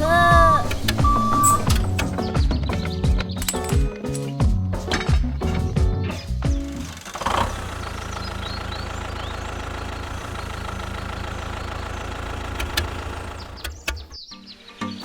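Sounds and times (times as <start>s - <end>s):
engine idling: 0.0s - 3.5s, 4.9s - 14.2s.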